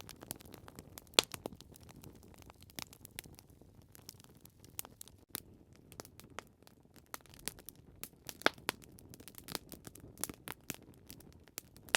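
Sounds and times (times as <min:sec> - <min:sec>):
wood fire crackling: 0:00.0 - 0:11.9.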